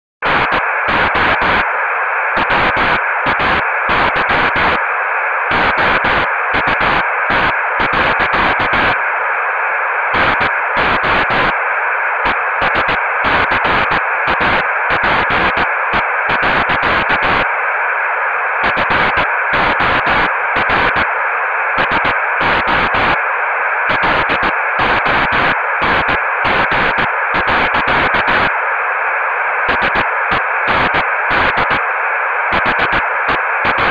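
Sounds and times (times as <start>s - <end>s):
static hiss with crackling: 0.2s - 33.9s.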